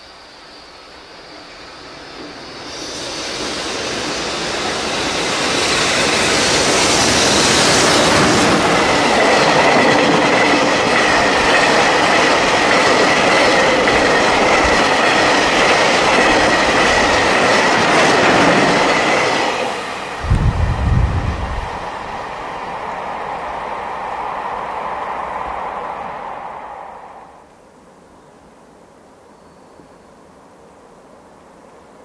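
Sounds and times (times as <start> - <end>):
freight train rumbling past: 0.0 - 27.6.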